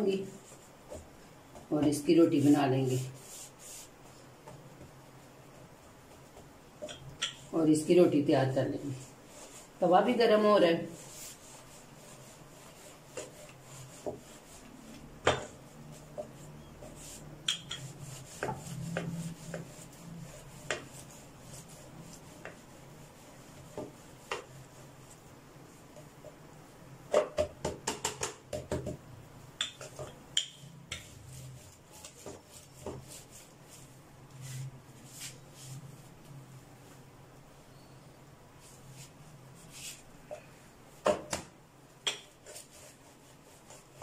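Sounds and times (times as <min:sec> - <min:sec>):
rolling pin rubbing dough: 0:00.0 - 0:29.0, 0:29.6 - 0:37.1, 0:38.6 - 0:41.3, 0:41.9 - 0:44.0.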